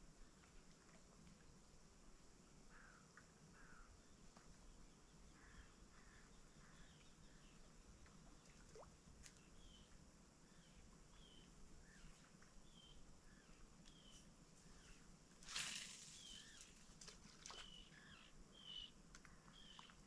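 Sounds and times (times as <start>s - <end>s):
low steady hiss: 0.0s - 20.0s
faint bird chirps: 2.7s - 15.1s, 15.8s - 20.0s.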